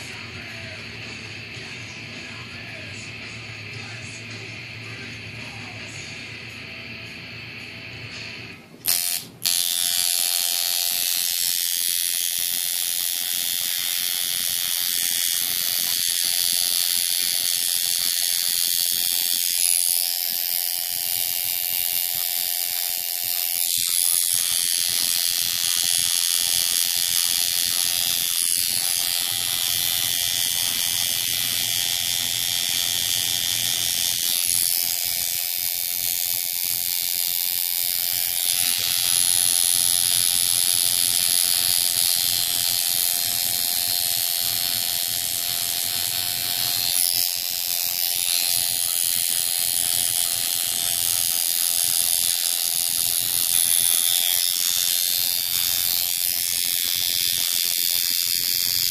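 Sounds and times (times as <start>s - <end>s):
tattoo machine buzzing: 0.0s - 58.9s.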